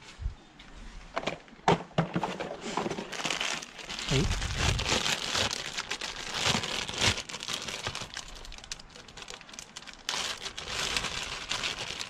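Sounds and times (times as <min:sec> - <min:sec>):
plastic packaging crinkling: 0:02.2 - 0:12.0.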